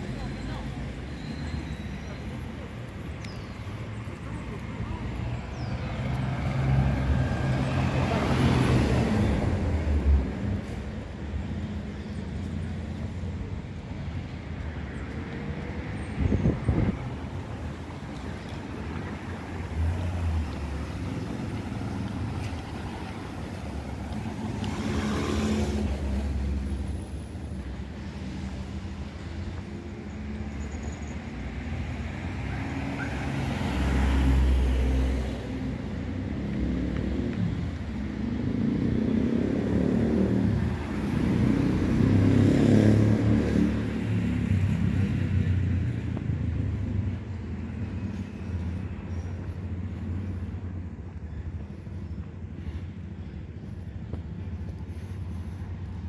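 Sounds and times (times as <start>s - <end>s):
hum of passing traffic: 0.0s - 56.0s
loud vehicles passing: 0.0s - 56.0s.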